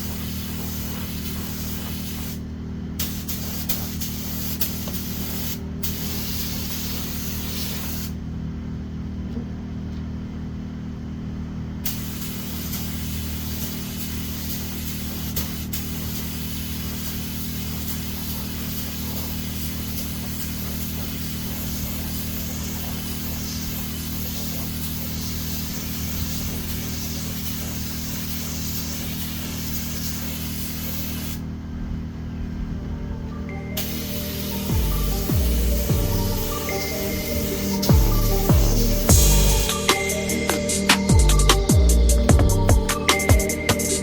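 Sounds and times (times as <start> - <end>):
paint spray gun hissing: 0.0 - 8.2, 11.8 - 31.5, 33.8 - 44.0
steady low hum: 0.0 - 44.0.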